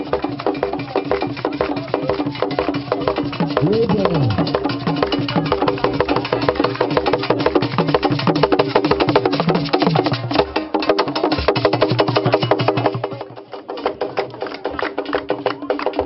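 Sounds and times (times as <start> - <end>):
drum ensemble playing: 0.0 - 14.4.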